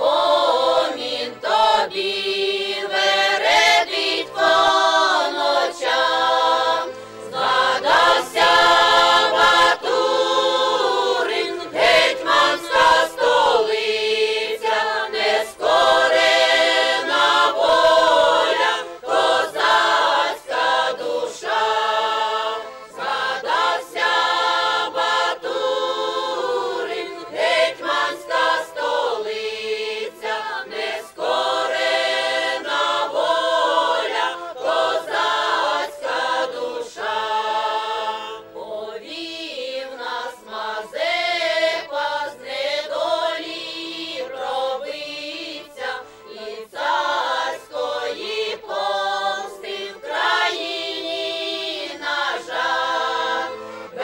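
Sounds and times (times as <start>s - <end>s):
mixed choir singing unaccompanied: 0.0s - 54.0s.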